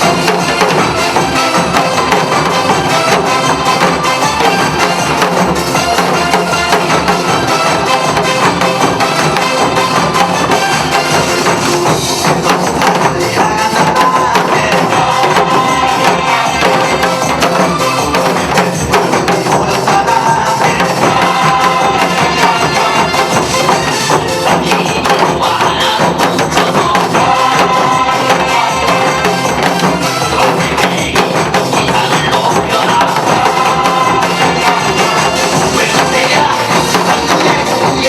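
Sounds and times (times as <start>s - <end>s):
group striking drums: 0.0s - 38.0s
upbeat dance music: 0.0s - 38.0s.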